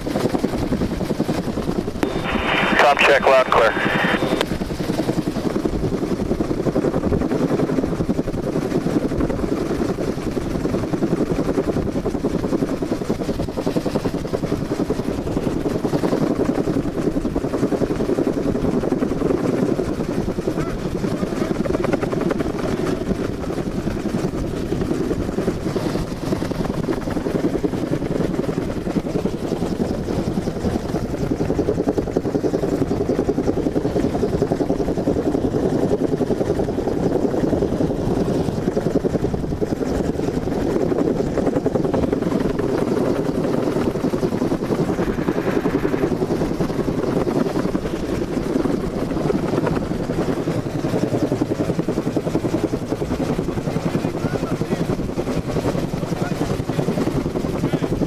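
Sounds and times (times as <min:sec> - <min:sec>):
helicopter running loudly: 0:00.0 - 0:58.0.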